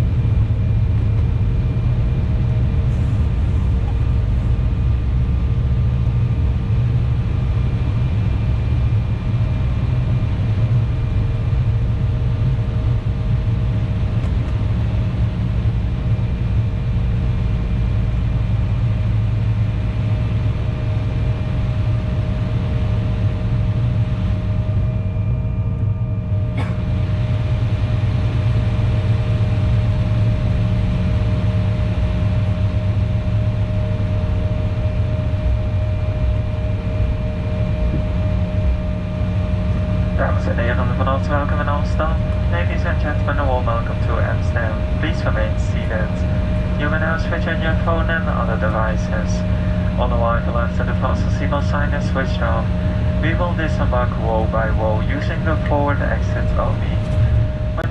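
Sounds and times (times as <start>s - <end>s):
jet engines rumbling and whining: 0.0s - 57.9s.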